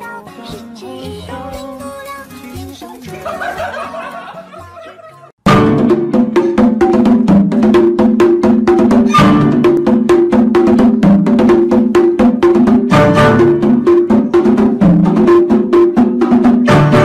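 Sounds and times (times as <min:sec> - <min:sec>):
music with clicking percussion beat: 0:00.0 - 0:17.0.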